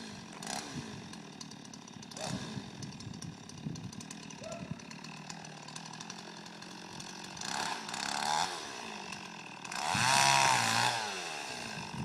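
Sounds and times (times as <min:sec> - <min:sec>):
chainsaw revving and idling: 0:00.0 - 0:12.0.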